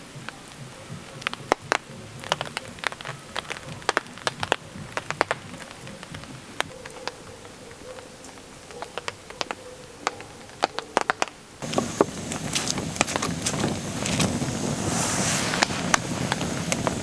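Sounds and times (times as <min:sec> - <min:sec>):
raindrops tapping on a surface: 0:00.0 - 0:17.0.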